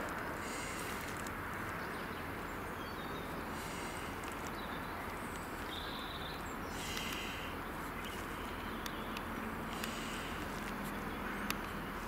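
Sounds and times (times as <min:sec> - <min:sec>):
outdoor background noise: 0:00.0 - 0:12.0
faint bird chirps: 0:01.8 - 0:11.9.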